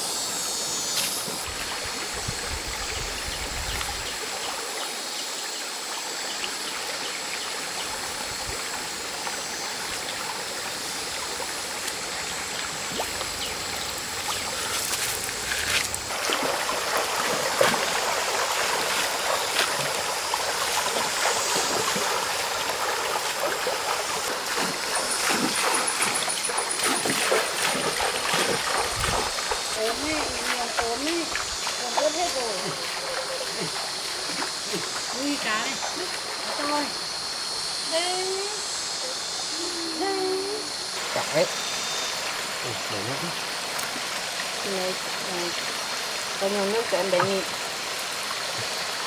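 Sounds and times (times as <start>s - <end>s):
stream water trickling: 0.0s - 49.0s
small water splashes: 5.8s - 37.3s, 41.0s - 49.0s.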